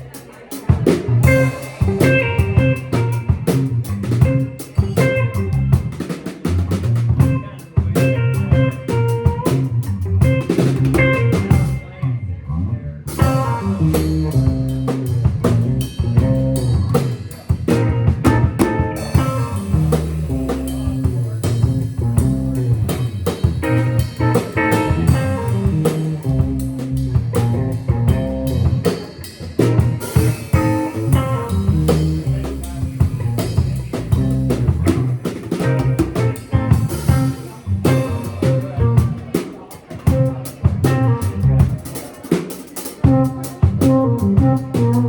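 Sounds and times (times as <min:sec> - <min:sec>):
live funk band playing: 0:00.0 - 0:45.0.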